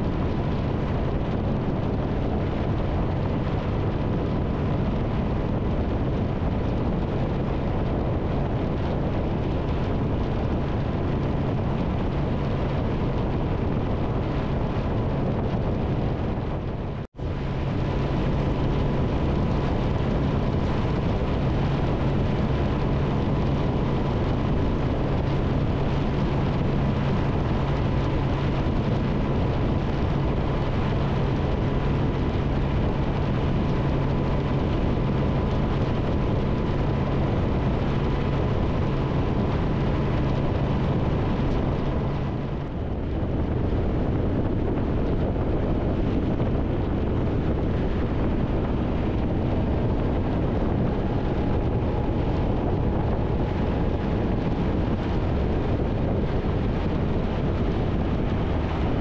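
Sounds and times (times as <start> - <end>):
road noise: 0.0 - 59.0
wind rush on microphone: 0.0 - 59.0.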